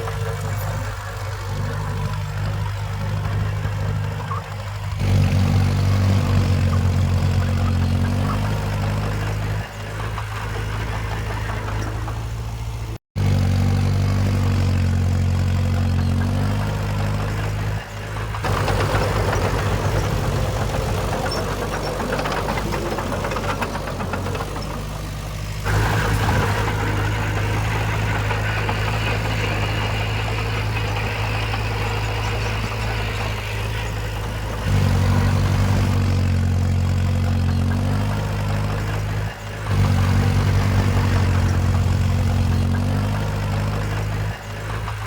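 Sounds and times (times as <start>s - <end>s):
diesel engines of machinery running: 0.0s - 45.0s.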